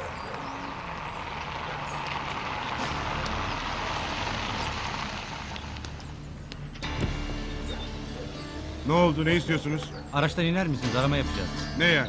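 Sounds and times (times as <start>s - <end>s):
tyres on stone paving: 0.0s - 12.0s.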